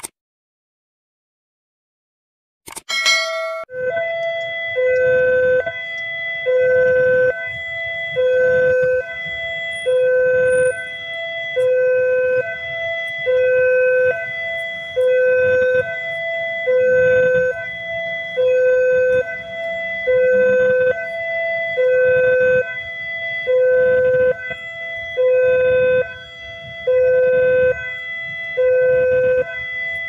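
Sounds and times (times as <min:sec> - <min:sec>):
level crossing two-tone alarm: 0:02.9 - 0:30.0.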